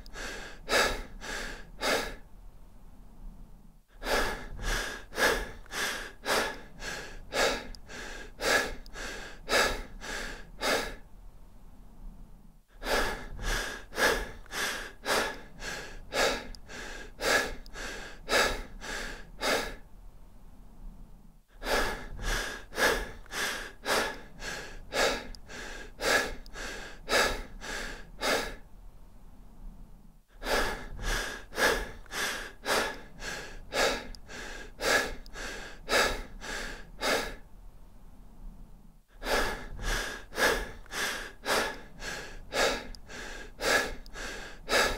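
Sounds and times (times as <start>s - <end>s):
person breathing deep and fast: 0.0s - 44.9s.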